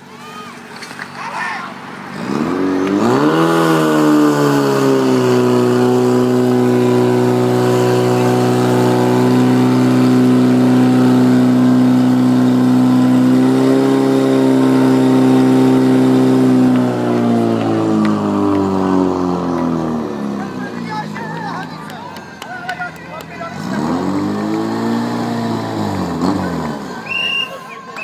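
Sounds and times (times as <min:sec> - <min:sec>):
pump engine revving: 0:01.8 - 0:22.4, 0:23.2 - 0:28.0.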